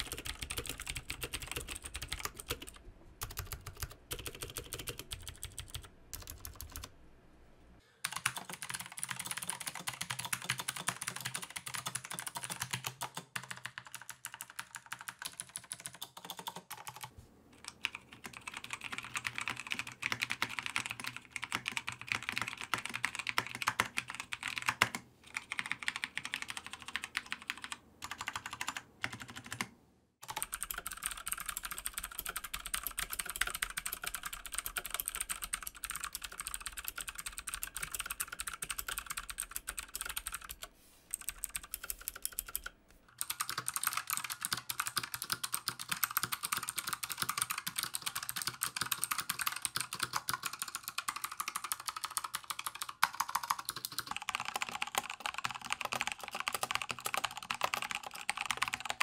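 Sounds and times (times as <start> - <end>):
fast typing on clicky keyboard: 0.0 - 6.9, 8.0 - 59.0.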